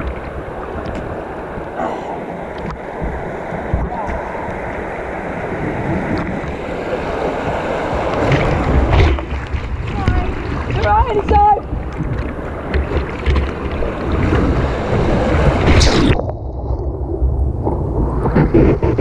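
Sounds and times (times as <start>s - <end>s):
rushing white water: 0.0s - 16.3s
wind noise on microphone: 2.6s - 19.0s.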